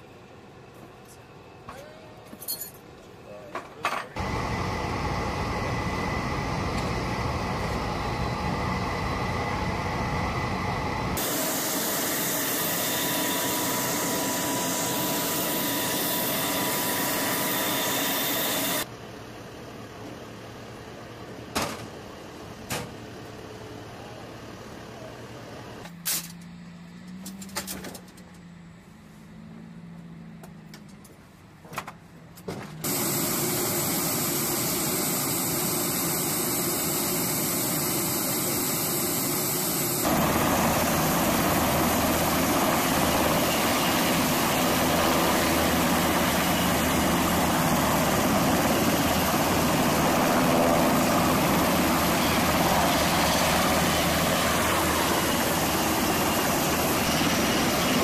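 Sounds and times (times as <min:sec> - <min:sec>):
helicopter turbines and rotors: 0:04.2 - 0:25.9, 0:32.8 - 0:58.0.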